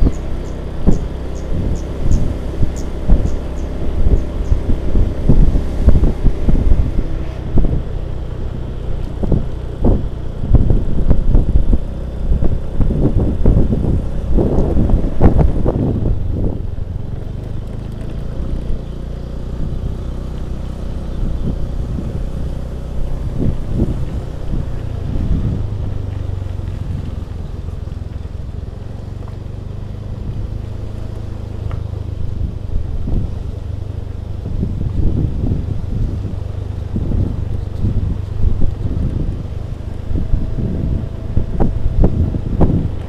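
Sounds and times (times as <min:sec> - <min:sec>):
scooter engine running: 0:00.0 - 0:43.0
wind buffeting microphone: 0:00.0 - 0:43.0.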